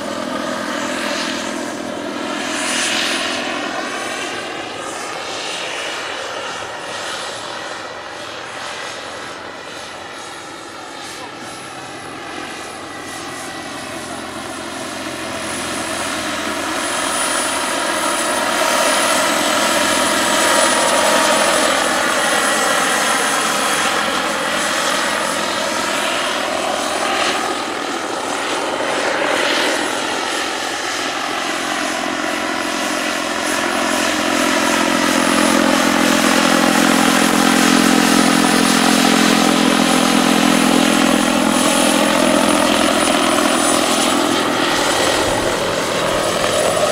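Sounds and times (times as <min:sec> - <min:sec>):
helicopter rotors beating: 0:00.0 - 0:46.9
model helicopter turbine whine: 0:00.0 - 0:46.9.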